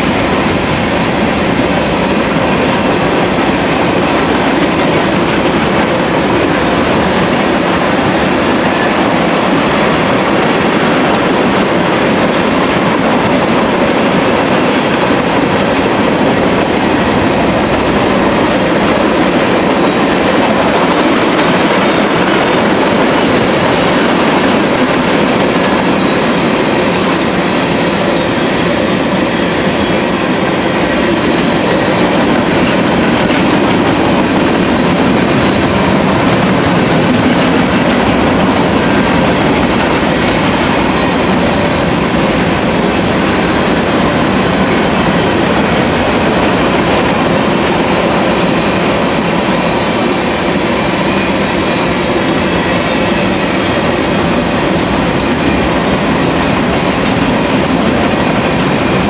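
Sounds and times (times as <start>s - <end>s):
freight train wheels rattling: 0.0s - 59.0s.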